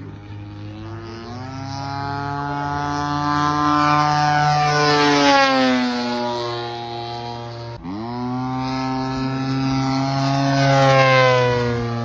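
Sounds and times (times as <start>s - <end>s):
model plane motor droning: 0.0s - 12.0s.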